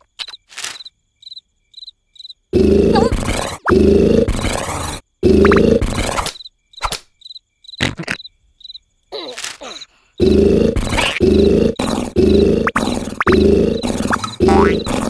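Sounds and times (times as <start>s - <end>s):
cricket chirps: 0.0s - 15.0s.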